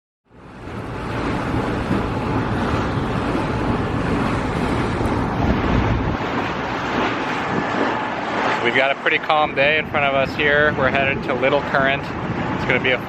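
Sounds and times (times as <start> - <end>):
water rushing past hull: 0.3 - 13.0
wind buffeting microphone: 0.3 - 13.0.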